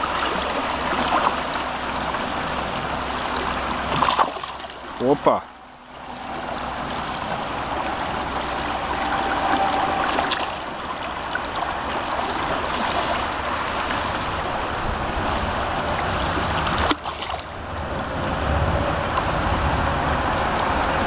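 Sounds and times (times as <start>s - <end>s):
river water running: 0.0s - 21.0s.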